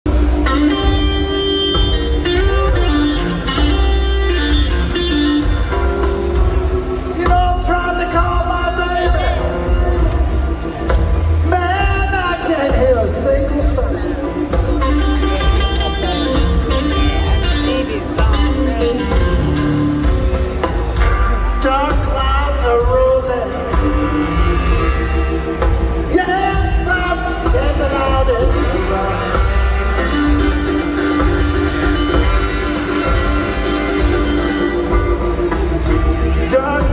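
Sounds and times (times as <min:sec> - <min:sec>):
electric blues band playing: 0:00.1 - 0:36.9.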